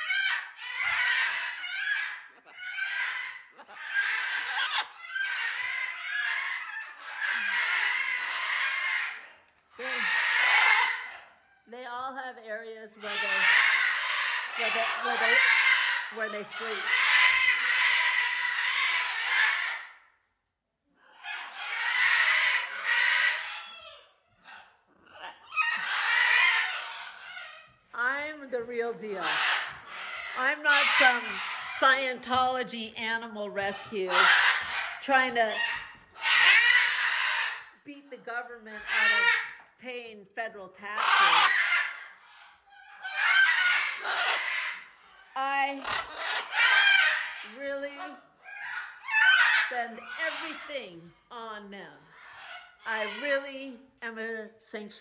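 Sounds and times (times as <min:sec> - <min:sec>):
macaws calling: 0:00.0 - 0:11.7, 0:12.6 - 0:20.2, 0:21.0 - 0:37.8, 0:38.7 - 0:39.8, 0:40.8 - 0:53.9.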